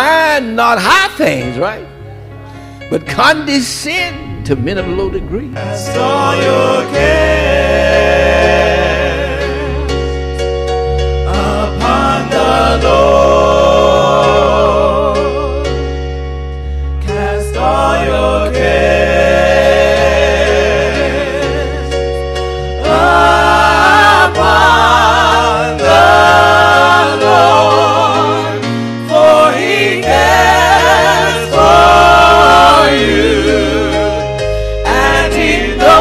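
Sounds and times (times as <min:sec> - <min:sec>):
low musical accompaniment: 0:00.0 - 0:36.0
choir singing: 0:04.0 - 0:10.1, 0:11.2 - 0:15.9, 0:17.0 - 0:22.1, 0:22.7 - 0:36.0.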